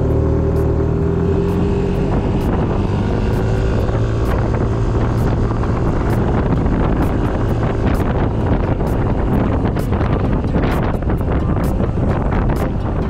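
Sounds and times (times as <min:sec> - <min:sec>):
scooter engine running: 0:00.0 - 0:13.0
wind noise on microphone: 0:00.0 - 0:13.0.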